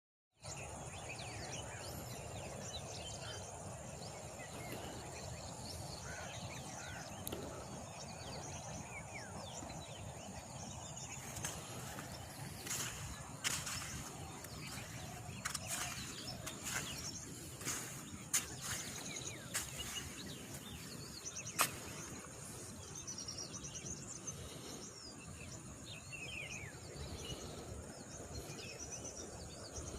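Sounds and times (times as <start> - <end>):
small birds chirping: 0.4 - 29.9.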